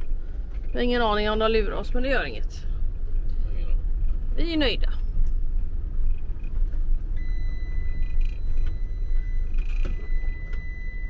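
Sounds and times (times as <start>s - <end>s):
engine idling low rumble: 0.0s - 11.0s.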